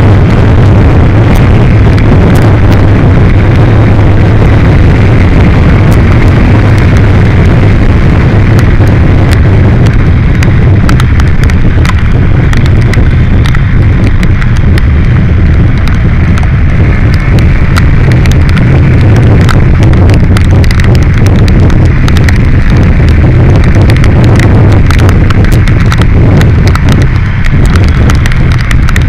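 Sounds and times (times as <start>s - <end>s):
motorcycle engine and road drone: 0.0s - 29.0s
sharp crackles and pops: 0.0s - 29.0s
wind roar on microphone: 0.0s - 29.0s.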